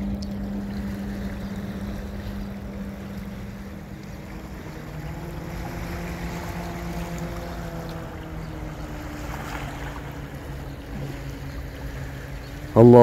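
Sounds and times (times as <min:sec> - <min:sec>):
hiss of wind and water: 0:00.0 - 0:13.0
speedboat engine droning: 0:00.0 - 0:13.0.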